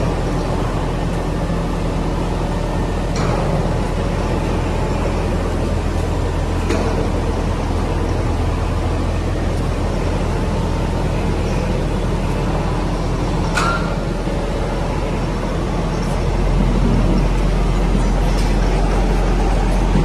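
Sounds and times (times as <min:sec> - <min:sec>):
loud background rumble with hum: 0:00.0 - 0:20.0.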